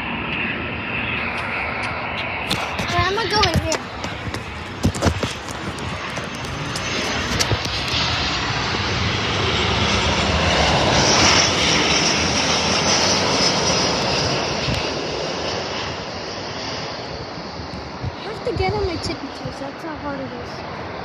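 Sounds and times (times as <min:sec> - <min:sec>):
high fan whine: 0:00.0 - 0:21.0
jet engine rush: 0:00.0 - 0:21.0.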